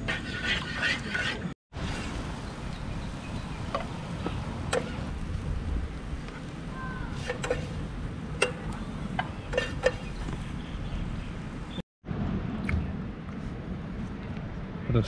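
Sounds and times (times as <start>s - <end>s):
steady low rumble: 1.8s - 15.0s.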